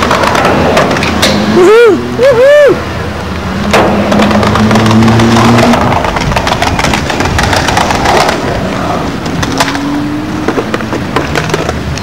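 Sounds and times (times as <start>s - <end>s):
skateboard clicks and knocks: 0.0s - 2.0s, 3.5s - 12.0s
skateboard wheels rolling on concrete: 0.0s - 12.0s.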